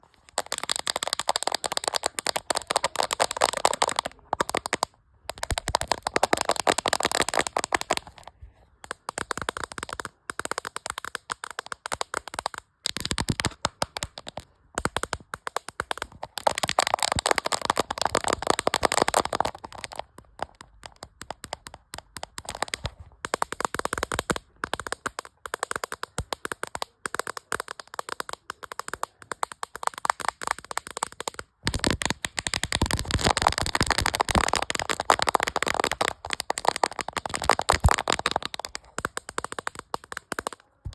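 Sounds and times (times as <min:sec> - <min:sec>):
fingers tapping on a camera: 0:00.2 - 0:40.9.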